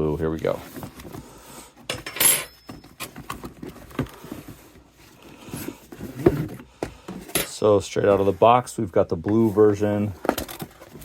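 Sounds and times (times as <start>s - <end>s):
cardboard rustling: 0.0s - 1.5s, 2.5s - 11.0s.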